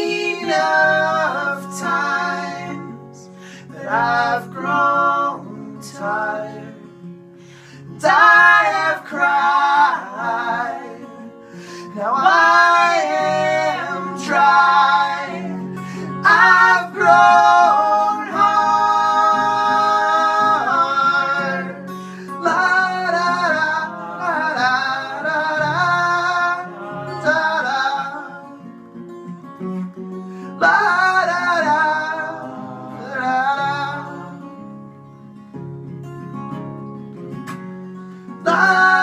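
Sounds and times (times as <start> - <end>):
voices singing in harmony: 0.0 - 7.0, 7.8 - 28.7, 30.6 - 34.6, 38.4 - 39.0
acoustic guitar: 0.0 - 39.0.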